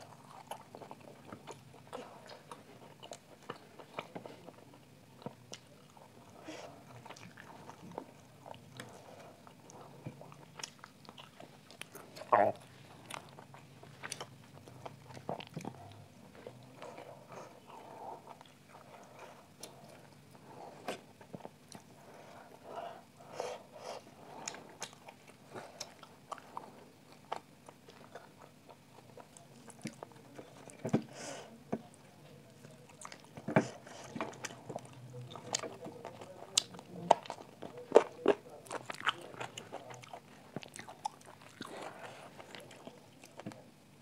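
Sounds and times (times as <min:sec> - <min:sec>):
person chewing: 0:00.0 - 0:22.0, 0:23.1 - 0:31.0, 0:32.6 - 0:43.6.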